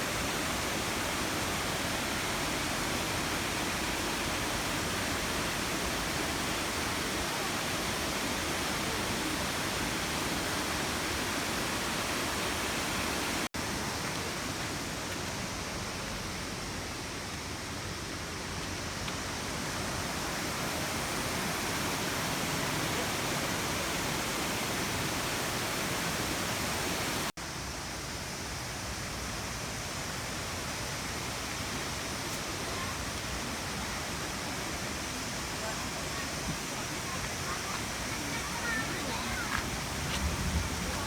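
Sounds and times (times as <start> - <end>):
waterfall rushing: 0.0 - 27.4, 29.3 - 41.0.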